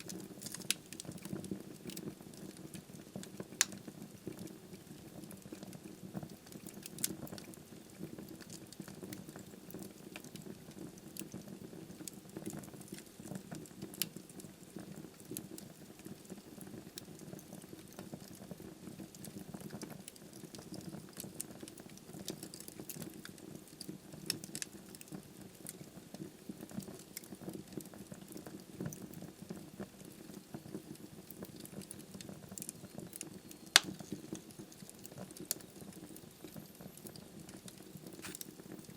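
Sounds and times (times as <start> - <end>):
log fire crackling: 0.0 - 38.9.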